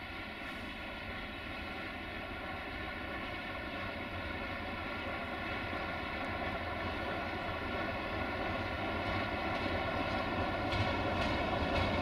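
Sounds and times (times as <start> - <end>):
locomotive diesel engine drone: 0.0 - 12.0.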